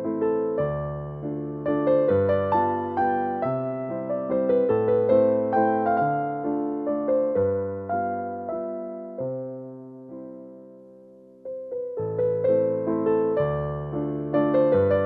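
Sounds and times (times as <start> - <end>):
calm solo piano music: 0.0 - 15.0.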